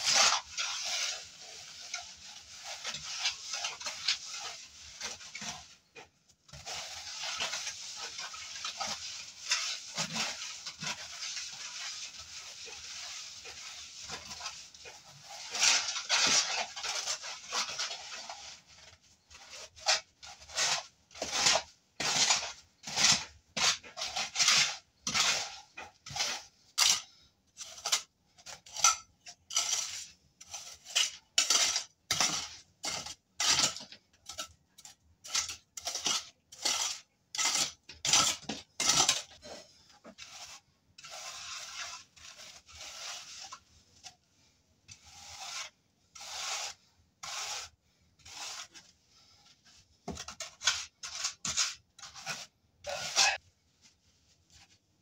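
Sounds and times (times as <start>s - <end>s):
tool scraping wet cement: 0.0s - 53.4s.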